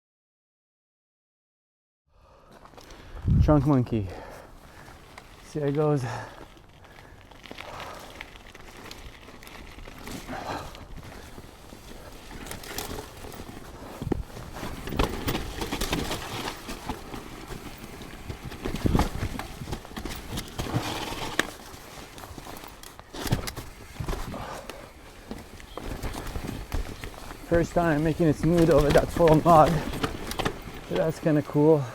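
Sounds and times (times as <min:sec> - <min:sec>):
bike tyres on mud and roots: 0:02.2 - 0:31.9
bike rattling and knocking: 0:02.6 - 0:31.9.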